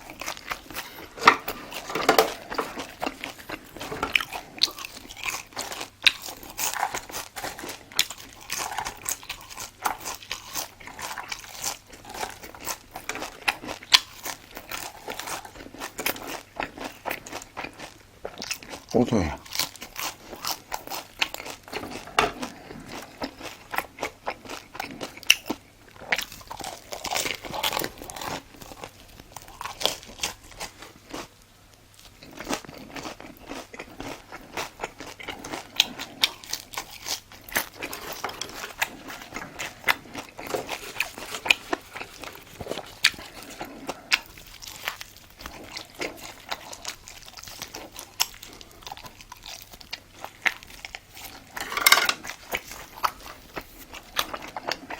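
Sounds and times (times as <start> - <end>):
chewing crisp food: 0.0 - 54.9.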